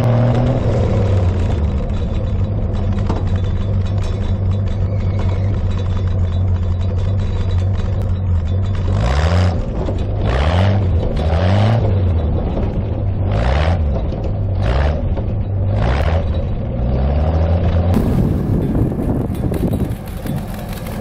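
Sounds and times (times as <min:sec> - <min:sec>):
snow plow engine revving: 0:00.0 - 0:21.0.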